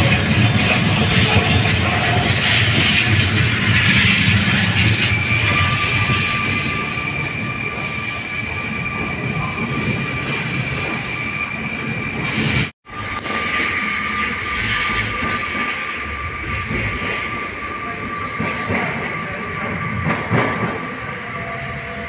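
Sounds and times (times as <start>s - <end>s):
high-pitched train whine: 0.0s - 22.0s
train wheels rumbling on rails: 0.0s - 22.0s.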